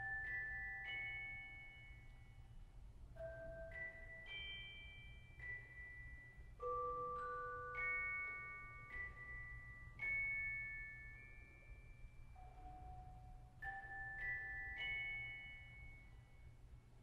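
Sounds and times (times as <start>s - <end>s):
faint low hum: 0.0s - 17.0s
glockenspiel-like bell melody: 0.0s - 17.0s.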